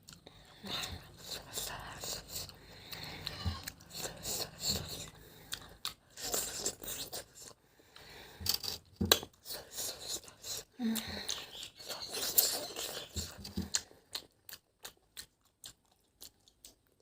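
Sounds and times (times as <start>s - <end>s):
person eating and chewing: 0.0s - 17.0s.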